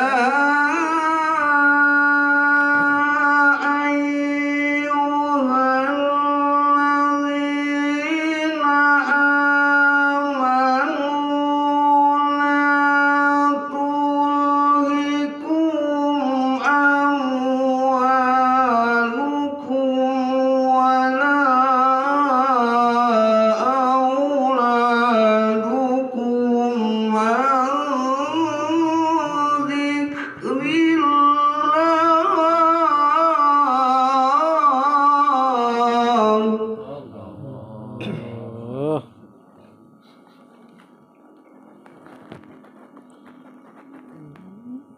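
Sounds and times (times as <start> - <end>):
man reciting melodically: 0.0 - 40.0.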